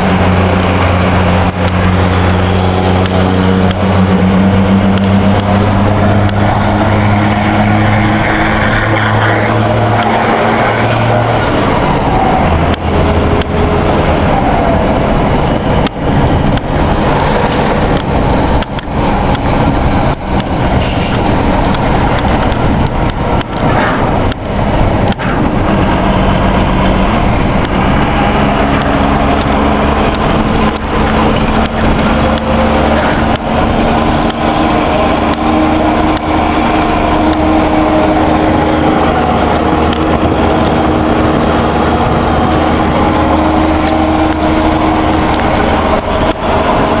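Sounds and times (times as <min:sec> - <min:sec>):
truck diesel engine under load: 0:00.0 - 0:47.0.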